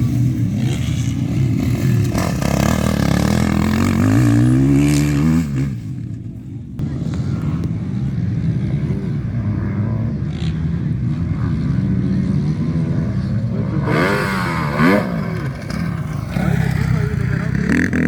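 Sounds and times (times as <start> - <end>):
motorcycle engine revving: 0.0 - 18.0
motorcycle engines droning: 0.0 - 18.0.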